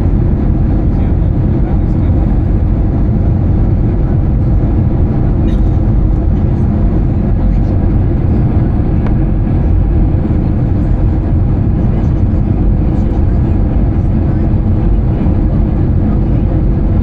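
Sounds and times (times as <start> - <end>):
airliner cabin engine noise: 0.0 - 17.0.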